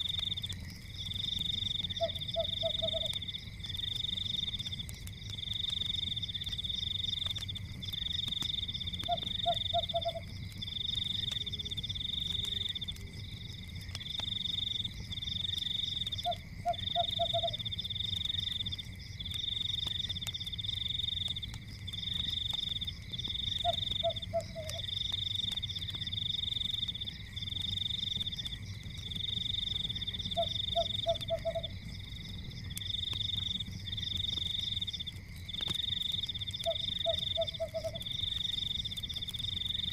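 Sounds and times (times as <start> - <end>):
fireplace crackling: 0.0 - 39.9
frogs trilling chorus: 0.0 - 39.9.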